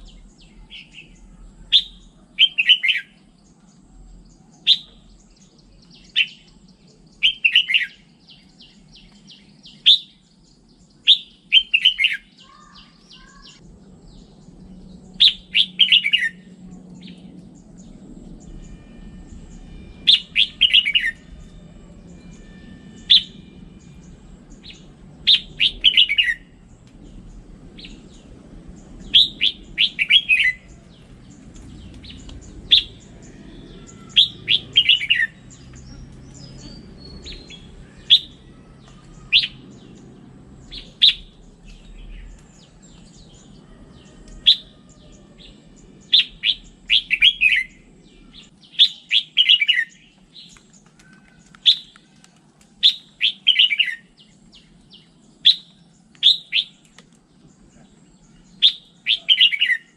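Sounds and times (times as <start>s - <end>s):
bulbul singing warbled phrases: 0.0s - 43.7s, 44.4s - 52.0s, 52.8s - 59.9s.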